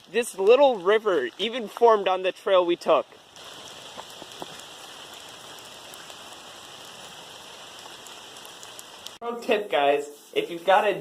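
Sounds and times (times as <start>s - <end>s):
falling water: 0.0s - 9.2s
water drips: 0.0s - 9.2s.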